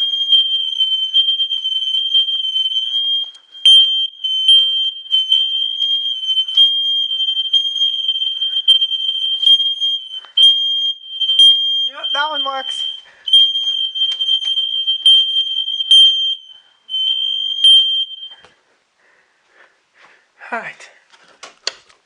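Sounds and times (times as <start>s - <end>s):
smoke alarm high-pitched tone: 0.0s - 18.6s.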